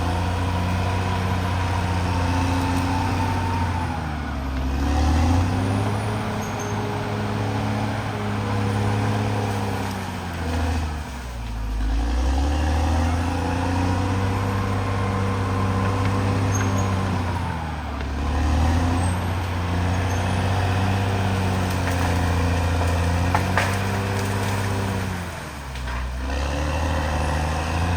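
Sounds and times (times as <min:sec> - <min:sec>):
bulldozer diesel engine under load: 0:00.0 - 0:27.9.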